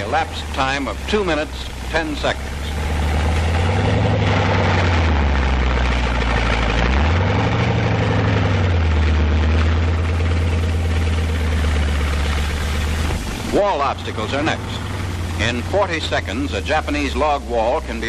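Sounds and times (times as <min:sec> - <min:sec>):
heavy tank engine running: 0:00.0 - 0:18.0.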